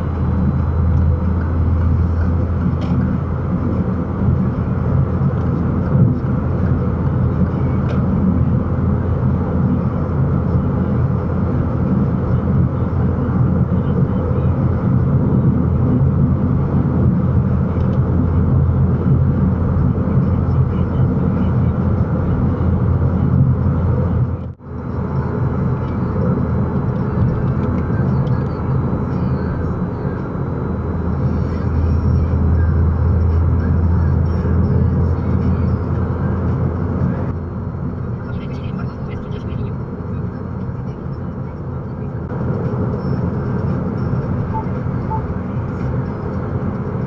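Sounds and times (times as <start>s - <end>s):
road noise inside a car: 0.0s - 47.0s.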